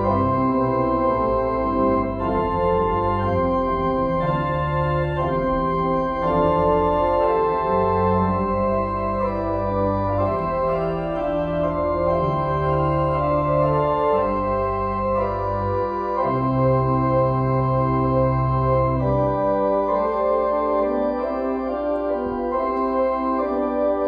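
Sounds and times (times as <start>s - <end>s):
organ chords: 0.0s - 24.0s.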